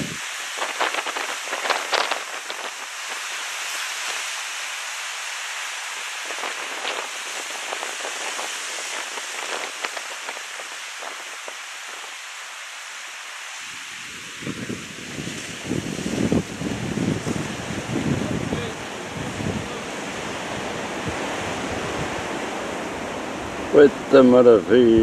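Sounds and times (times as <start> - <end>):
sea water washing over rocks: 0.0 - 25.0.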